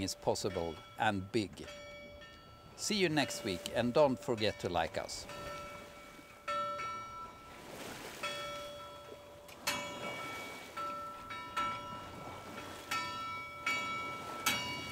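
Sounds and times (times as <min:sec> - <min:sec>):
bell buoy ringing: 0:00.0 - 0:14.9.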